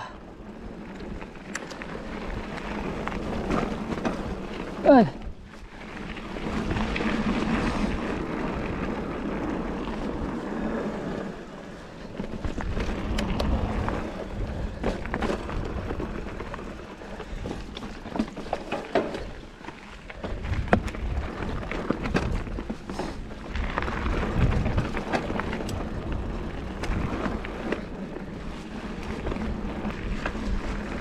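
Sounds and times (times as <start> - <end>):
bike clicking and rattling: 0.0 - 31.0
bike tyres rolling on dirt: 0.0 - 31.0.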